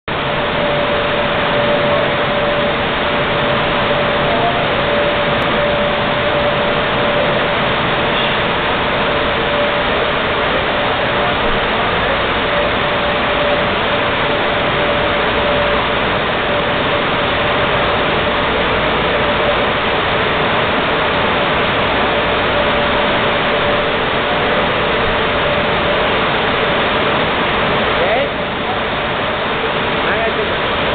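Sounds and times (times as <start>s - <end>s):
car wash machinery humming: 0.0s - 30.9s.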